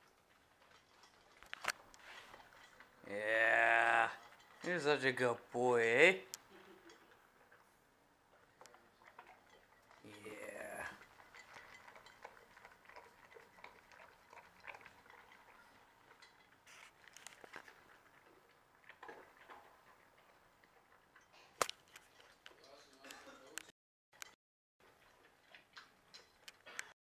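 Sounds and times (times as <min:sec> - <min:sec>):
dog eating from bowl: 0:00.0 - 0:27.0.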